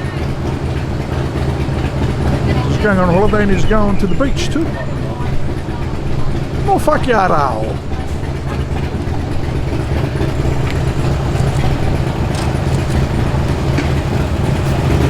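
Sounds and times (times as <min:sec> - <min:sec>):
car engine rumbling at low speed: 0:00.0 - 0:15.0.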